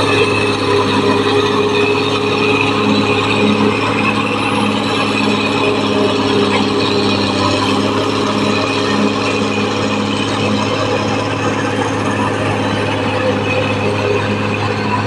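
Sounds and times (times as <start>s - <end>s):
bulldozer diesel engine hum: 0.0s - 15.0s
rapid mechanical clatter: 0.0s - 15.0s.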